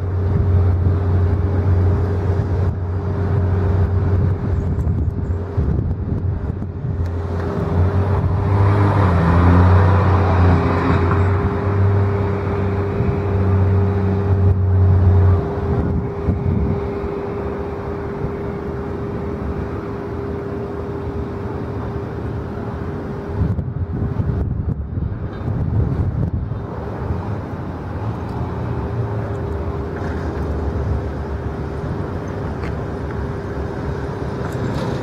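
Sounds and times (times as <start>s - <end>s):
low engine rumble: 0.0s - 35.0s
machinery hum with constant tone: 0.0s - 35.0s.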